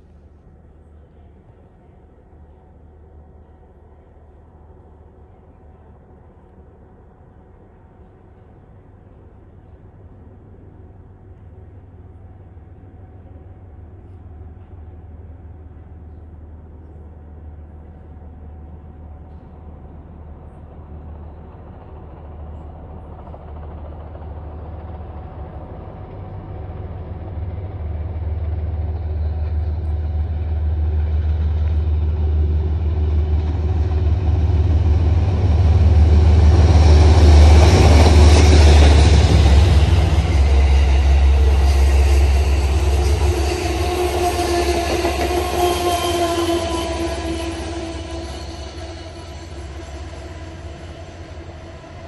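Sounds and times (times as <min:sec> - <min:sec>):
train passing: 0:00.0 - 0:52.0.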